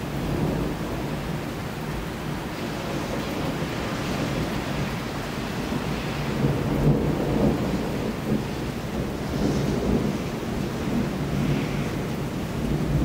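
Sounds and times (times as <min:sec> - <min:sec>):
steady rain: 0:00.0 - 0:13.0
thunder rumbling: 0:00.1 - 0:13.0.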